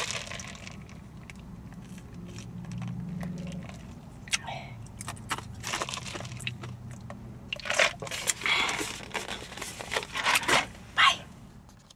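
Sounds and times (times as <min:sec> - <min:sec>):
plastic cup crinkling: 0:00.0 - 0:04.0, 0:05.0 - 0:10.7.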